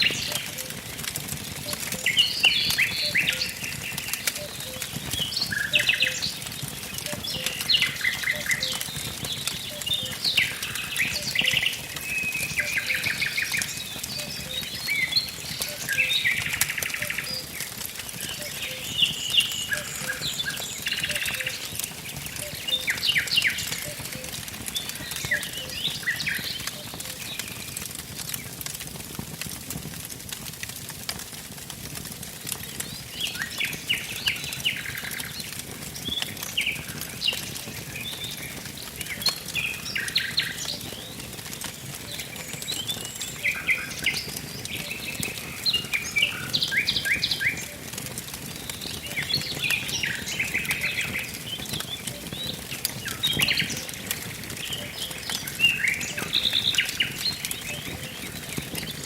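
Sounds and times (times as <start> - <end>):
songbirds singing trills: 0.0 - 28.6, 32.6 - 59.0
wood fire crackling: 0.0 - 59.0.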